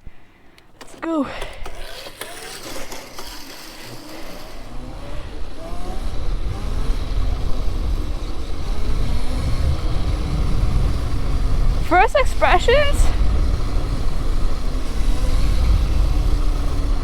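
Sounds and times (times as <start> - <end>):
electric motor whine: 0.8 - 17.0.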